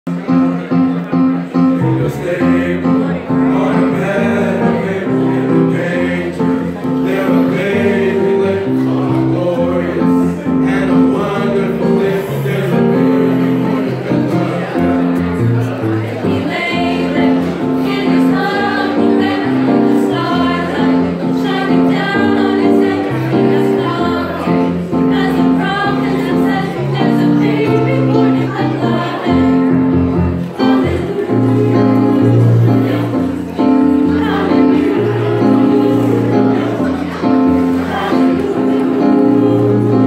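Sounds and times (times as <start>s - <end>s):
choir singing in harmony: 1.5s - 40.0s.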